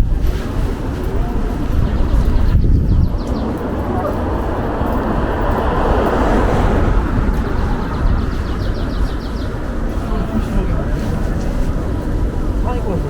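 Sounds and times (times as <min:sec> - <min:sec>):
city street traffic: 0:00.0 - 0:13.0
passing vehicle: 0:00.0 - 0:13.0
wind buffeting microphone: 0:00.0 - 0:13.0.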